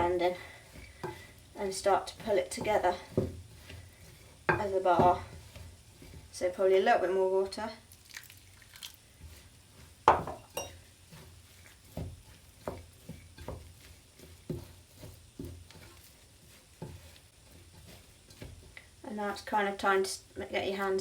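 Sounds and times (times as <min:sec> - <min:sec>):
utensil scraping mixing bowl: 0:00.0 - 0:21.0.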